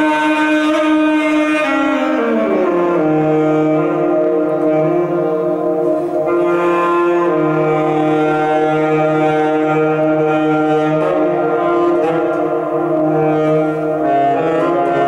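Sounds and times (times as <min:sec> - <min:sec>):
alto saxophone held notes: 0:00.0 - 0:15.0.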